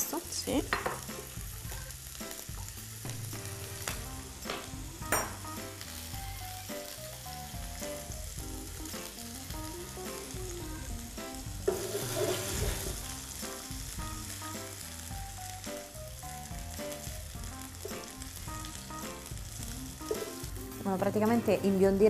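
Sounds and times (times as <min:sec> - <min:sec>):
background music with simple melody: 0:00.0 - 0:22.0
vegetables sizzling in oil: 0:00.0 - 0:22.0.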